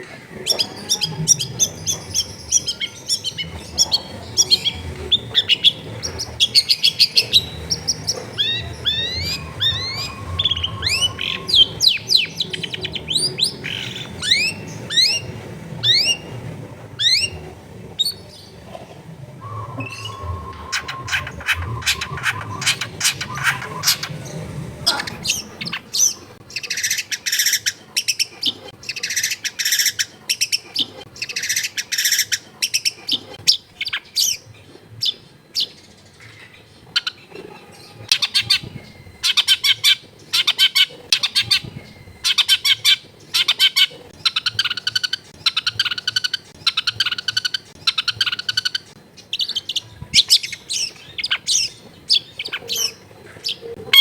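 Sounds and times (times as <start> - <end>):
bird singing harsh chattering: 0.0 - 54.0.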